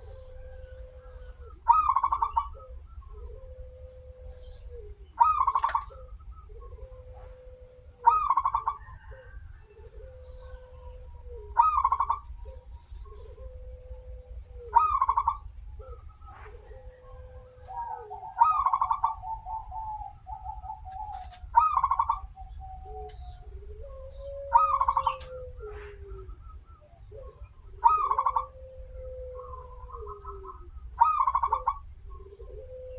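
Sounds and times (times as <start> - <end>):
dove cooing: 0.0 - 32.9
low hum: 0.0 - 32.9.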